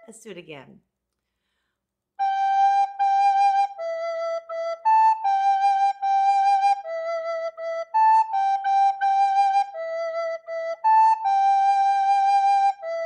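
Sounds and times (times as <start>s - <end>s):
recorder playing slow melody: 2.2s - 13.0s.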